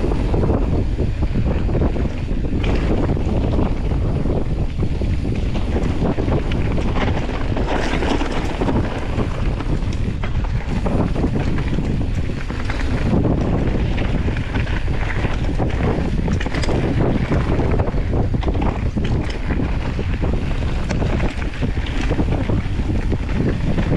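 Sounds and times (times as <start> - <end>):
bike rattling: 0.0 - 23.9
bike tyres rumbling on dirt: 0.0 - 23.9
wind buffeting microphone: 0.0 - 23.9.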